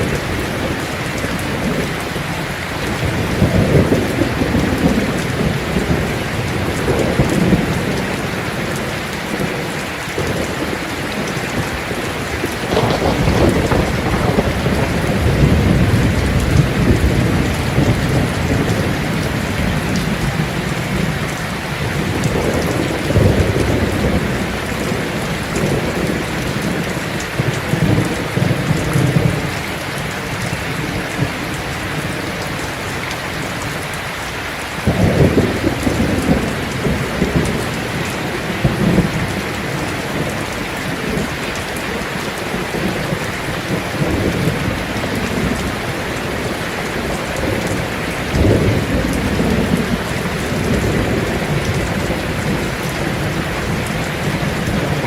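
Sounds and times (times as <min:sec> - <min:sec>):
thunder rumbling: 0:00.0 - 0:34.0, 0:34.6 - 0:55.0
heavy rain on a tin roof: 0:00.0 - 0:55.0.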